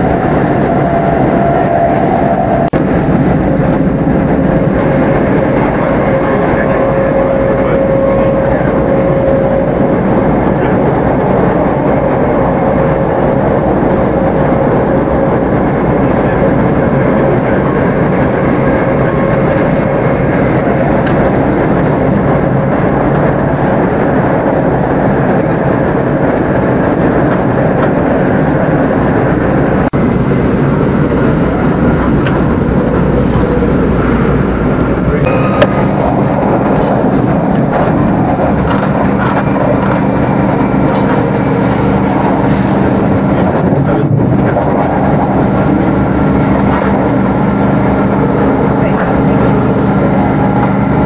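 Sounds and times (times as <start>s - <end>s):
faint train whine: 0.0s - 51.0s
train wheels rumbling on rail: 0.0s - 51.0s.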